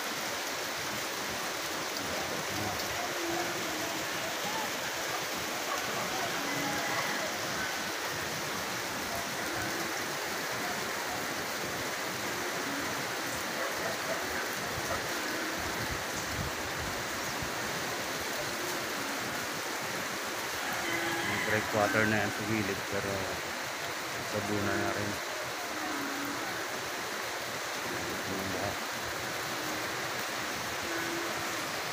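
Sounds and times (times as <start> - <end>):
rain: 0.0 - 31.9
river rushing in flood: 0.0 - 31.9.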